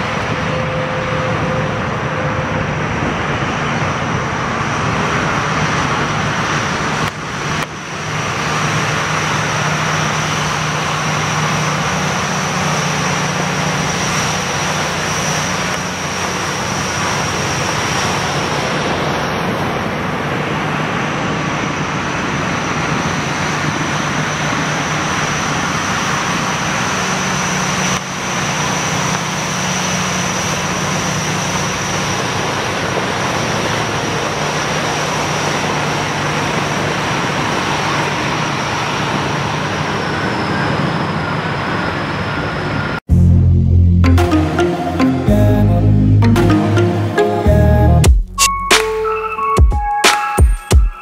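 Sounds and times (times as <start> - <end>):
high-pitched whine: 0.0 - 33.0, 38.7 - 49.6
heavy truck engine rumble: 0.0 - 44.7.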